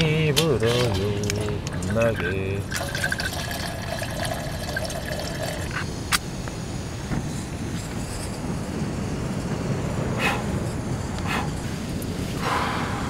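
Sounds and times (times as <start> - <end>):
strong wind gusts: 0.9 - 13.0.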